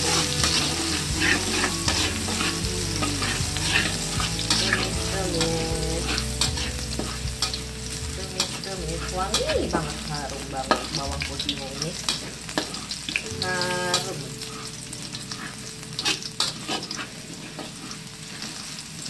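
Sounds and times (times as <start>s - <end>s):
metal spatula scraping pan: 0.0s - 13.2s, 13.9s - 18.7s
garlic sizzling in hot oil: 0.0s - 19.0s.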